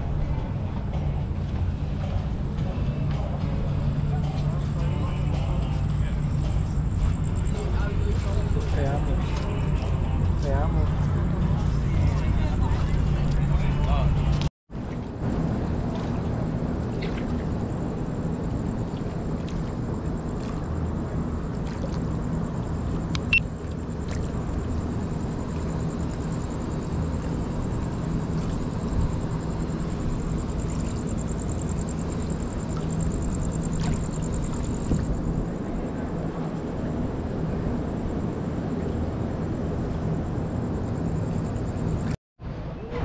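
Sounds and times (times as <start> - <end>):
low motor rumble: 0.0 - 43.0.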